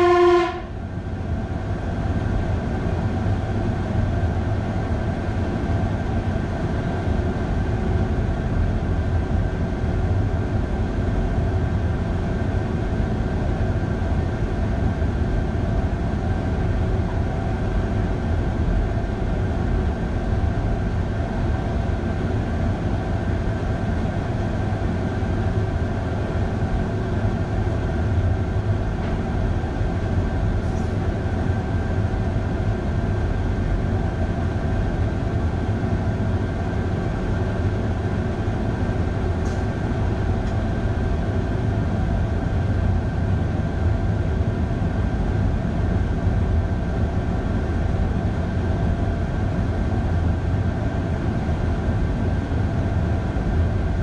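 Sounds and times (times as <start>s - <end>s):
electric train rumbling: 0.0s - 54.0s
train running gear hum: 0.0s - 54.0s.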